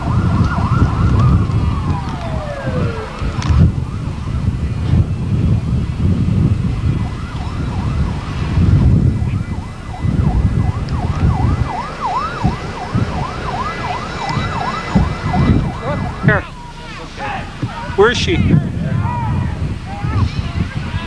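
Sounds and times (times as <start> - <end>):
emergency siren yelping: 0.0 - 21.0
wind on microphone: 0.0 - 21.0.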